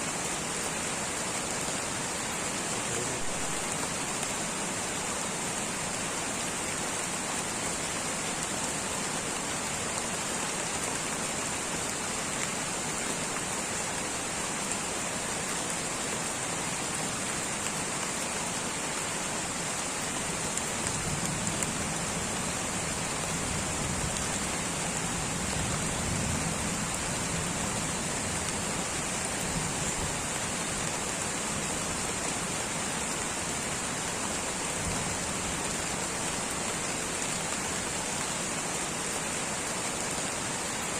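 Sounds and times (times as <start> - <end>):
light rain hissing: 0.0 - 40.9.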